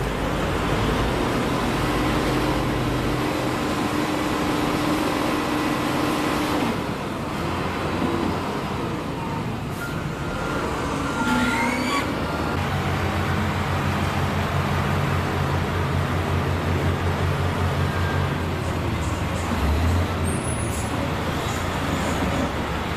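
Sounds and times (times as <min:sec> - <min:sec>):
heavy diesel machinery running: 0:00.0 - 0:22.9.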